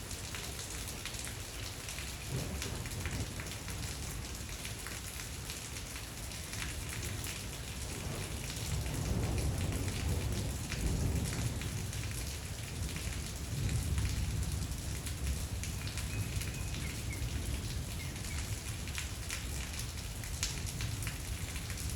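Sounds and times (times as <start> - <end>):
rain falling: 0.0 - 21.9.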